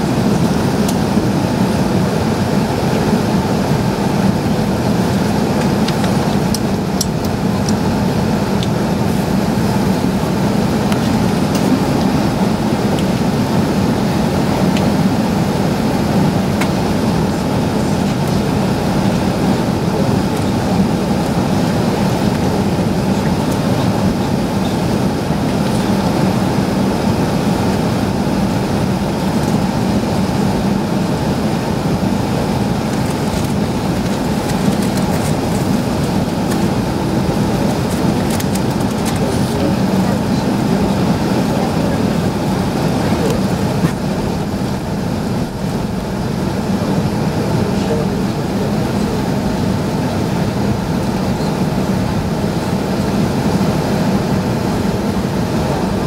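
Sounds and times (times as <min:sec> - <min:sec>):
aircraft cabin engine hum: 0:00.0 - 0:56.0.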